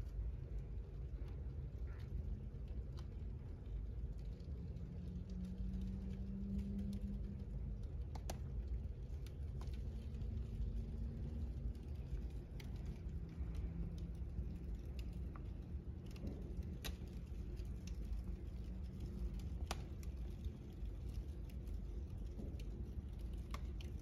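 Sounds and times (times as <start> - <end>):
fire crackling and popping: 0.0 - 24.0
low fire rumble: 0.0 - 24.0.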